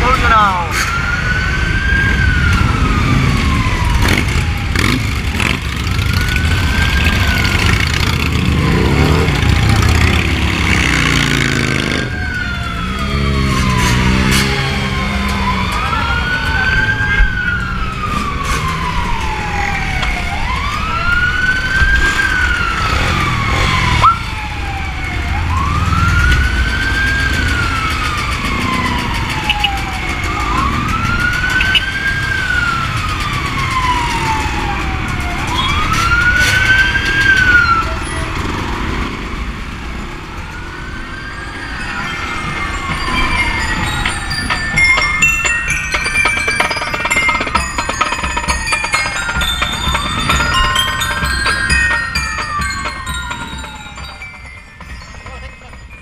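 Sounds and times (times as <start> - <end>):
emergency siren wailing: 0.0 - 56.0
motorcycle engines rumbling: 0.0 - 56.0.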